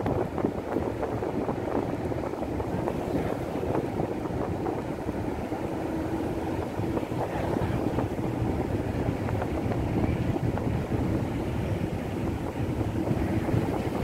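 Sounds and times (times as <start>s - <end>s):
engine hum: 0.0s - 14.0s
wind buffeting microphone: 0.0s - 14.0s.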